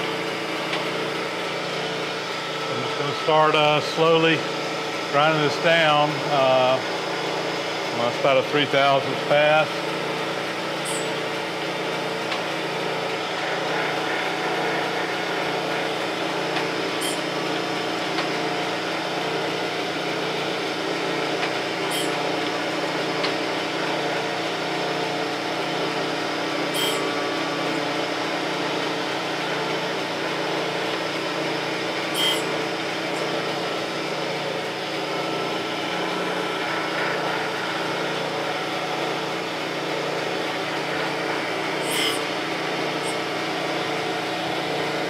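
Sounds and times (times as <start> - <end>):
surface grinder running: 0.0 - 45.0.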